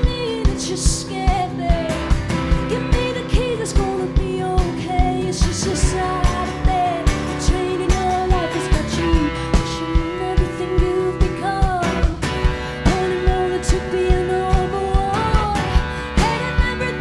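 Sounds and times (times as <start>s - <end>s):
live rock band: 0.0s - 17.0s
woman singing: 0.0s - 17.0s.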